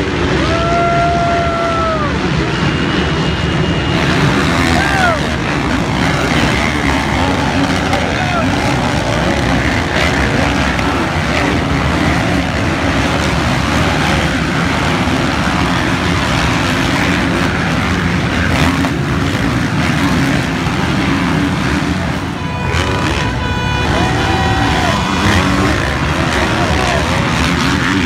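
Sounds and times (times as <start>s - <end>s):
motocross bikes revving: 0.0s - 28.0s.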